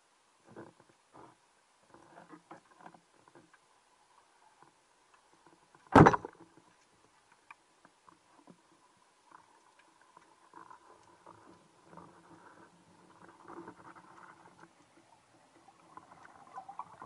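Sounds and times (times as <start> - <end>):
faint clicks and crackles: 0.4 - 17.0.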